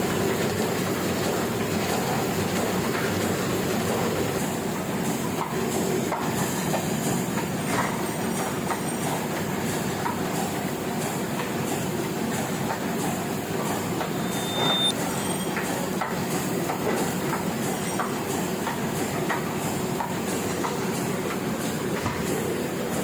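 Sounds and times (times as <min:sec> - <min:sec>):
printing press clattering: 0:00.0 - 0:23.0.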